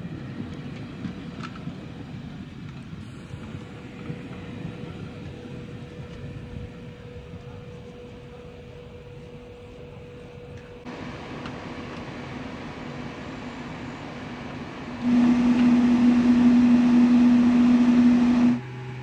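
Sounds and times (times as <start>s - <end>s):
train wheels rumbling on rails: 0.0s - 19.0s
steady hum: 3.0s - 19.0s.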